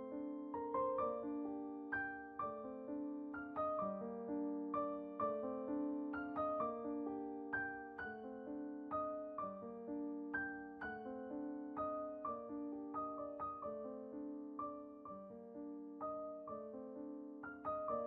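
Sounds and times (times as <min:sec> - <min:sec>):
slow gentle piano piece: 0:00.0 - 0:18.0.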